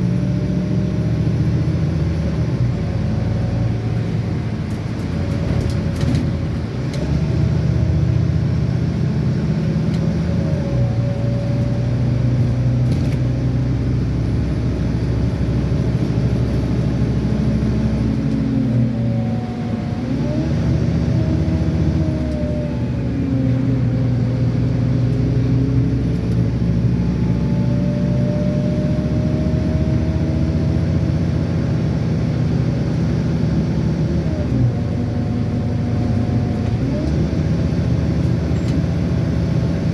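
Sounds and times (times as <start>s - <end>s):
bus diesel engine pulling: 0.0s - 39.9s
whine rising with road speed: 0.0s - 39.9s.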